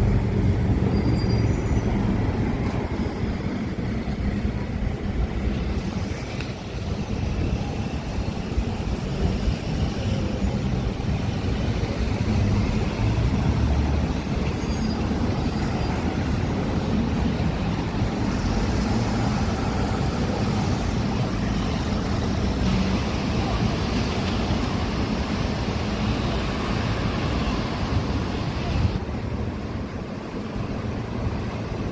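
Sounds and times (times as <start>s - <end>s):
heavy vehicles passing: 0.0s - 31.9s
passing cars: 0.0s - 31.9s.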